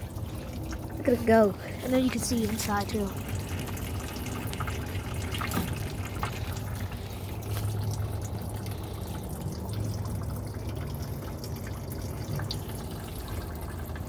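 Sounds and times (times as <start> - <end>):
water pouring and trickling into jug: 0.0 - 14.0.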